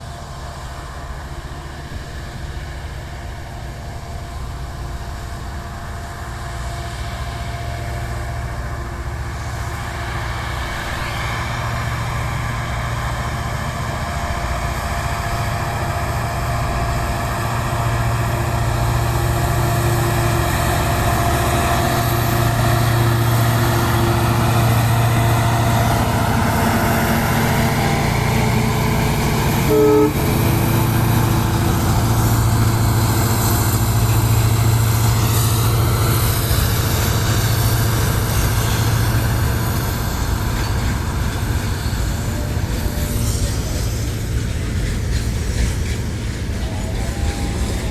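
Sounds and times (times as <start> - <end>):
locomotive engine humming: 0.0 - 47.9
whine: 2.0 - 45.0.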